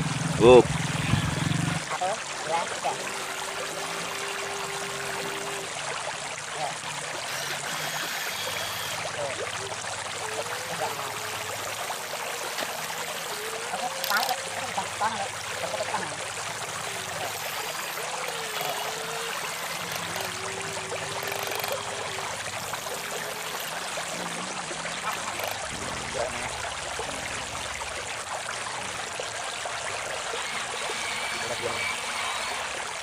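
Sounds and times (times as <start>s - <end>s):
river water flowing: 0.0s - 33.0s.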